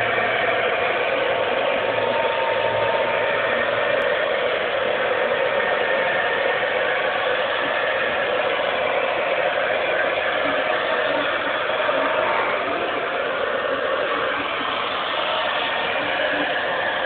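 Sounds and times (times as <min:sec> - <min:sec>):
hair dryer running: 0:00.0 - 0:17.0.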